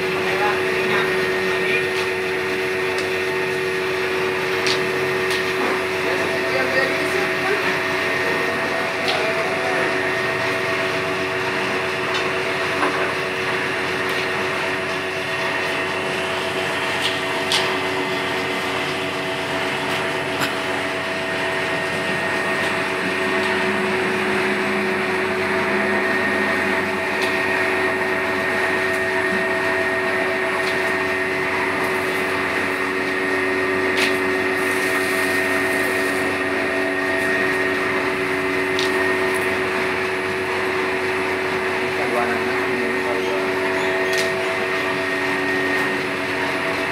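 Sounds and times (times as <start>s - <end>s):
processing machine humming and whining: 0.0s - 46.9s.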